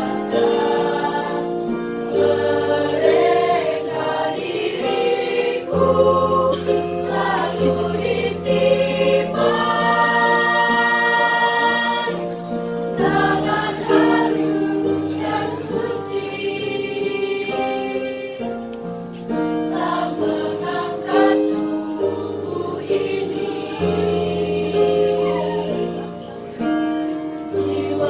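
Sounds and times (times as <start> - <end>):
female choir singing: 0.0 - 28.0.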